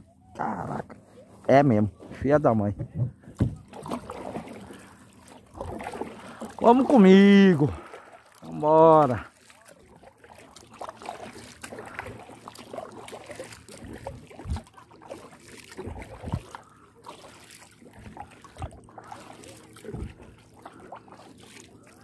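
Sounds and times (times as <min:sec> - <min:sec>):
paddle swishes and splashes: 0:02.0 - 0:22.0.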